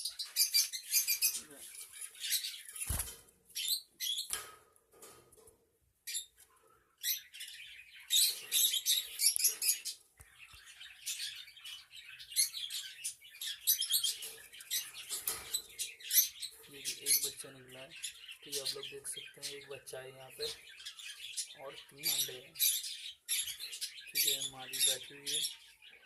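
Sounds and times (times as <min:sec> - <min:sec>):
budgerigars chirping: 0:00.0 - 0:04.4, 0:07.0 - 0:26.0.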